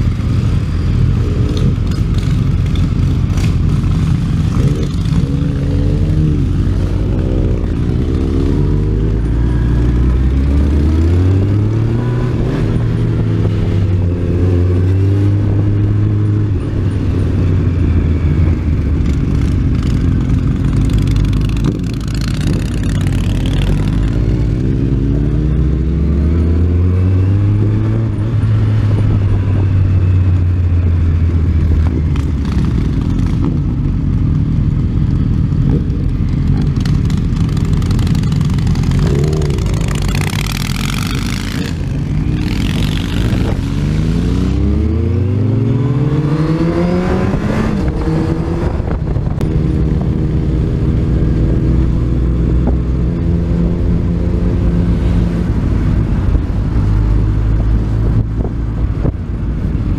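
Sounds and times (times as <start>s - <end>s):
motorcycle engine accelerating: 0.0s - 59.9s
road and wind noise: 0.0s - 59.9s.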